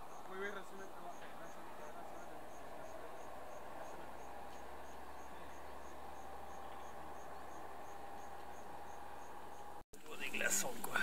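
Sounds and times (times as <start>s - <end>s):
insect chirping: 0.0s - 9.8s
faint steady drone: 0.0s - 11.0s.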